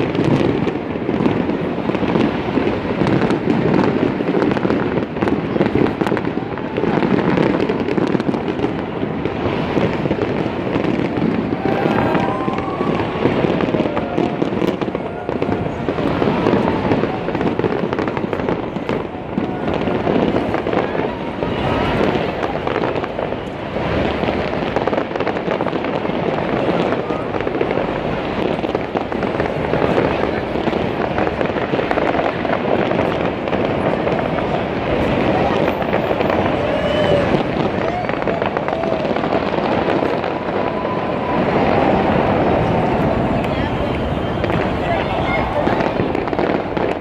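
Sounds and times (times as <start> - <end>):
crowd chatter: 0.0 - 47.0
fireworks bursting and crackling: 0.0 - 47.0.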